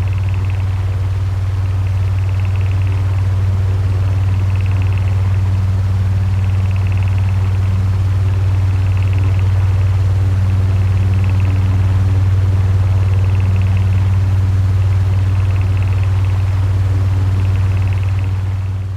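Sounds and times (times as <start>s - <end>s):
electric fan running: 0.0s - 18.9s.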